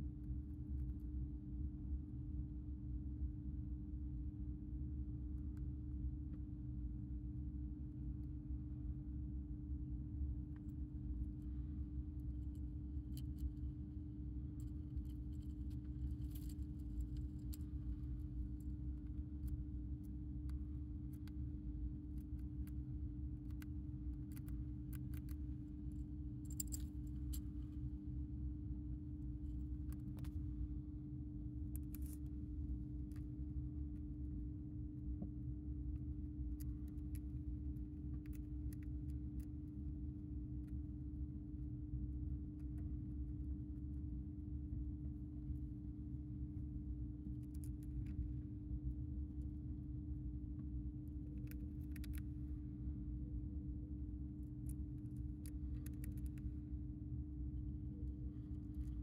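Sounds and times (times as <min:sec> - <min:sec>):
steady low hum: 0:00.0 - 0:59.0
hamster crunching and gnawing: 0:10.2 - 0:59.0.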